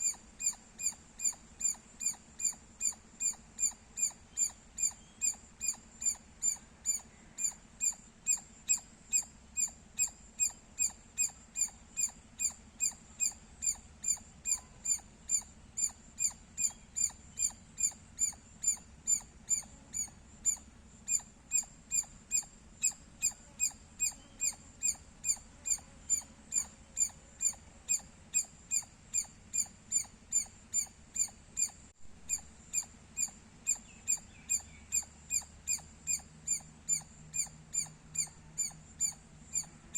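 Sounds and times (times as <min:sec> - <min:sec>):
squirrel chirping: 0:00.0 - 0:39.8.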